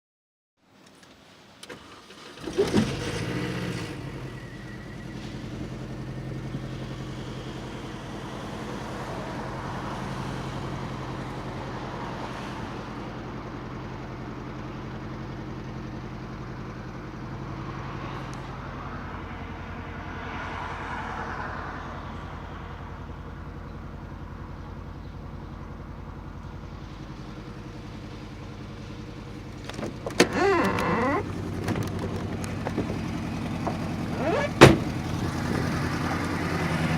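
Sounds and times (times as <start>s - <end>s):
car engine starting and idling: 0.8s - 36.9s.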